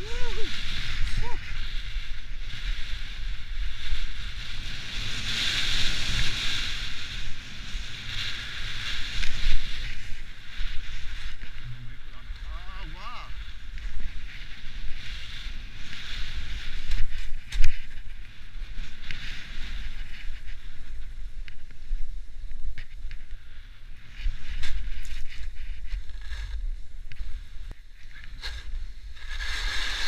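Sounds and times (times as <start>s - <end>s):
skis scraping and hissing on snow: 0.0s - 30.0s
wind buffeting microphone: 0.0s - 30.0s.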